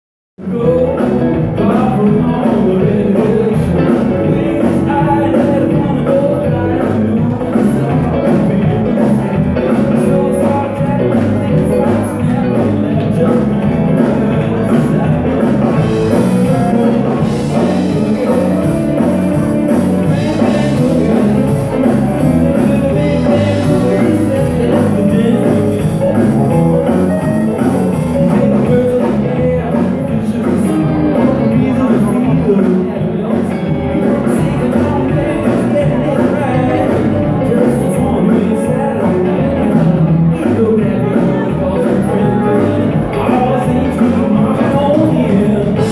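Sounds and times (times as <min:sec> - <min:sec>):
live band playing: 0:00.4 - 0:45.9.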